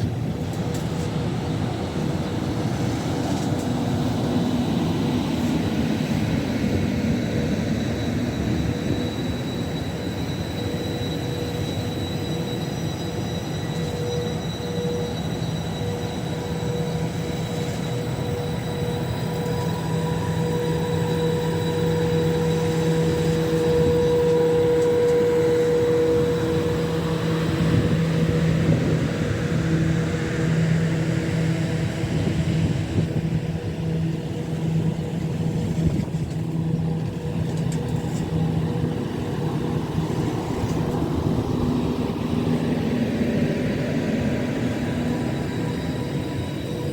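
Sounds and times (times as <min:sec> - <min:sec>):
humming tones: 0:00.0 - 0:46.9
train rumbling: 0:00.0 - 0:46.9.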